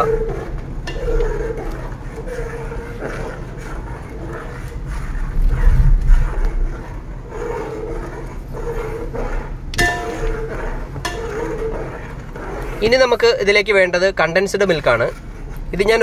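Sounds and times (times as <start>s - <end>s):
low rumble: 0.0s - 12.9s
metal ladle stirring in pot: 0.0s - 16.0s.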